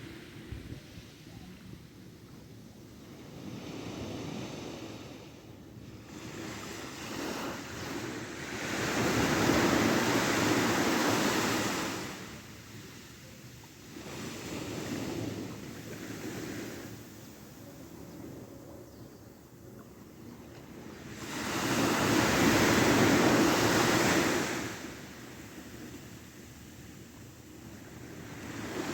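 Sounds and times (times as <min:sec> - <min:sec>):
ocean waves breaking on beach: 0:00.0 - 0:28.9.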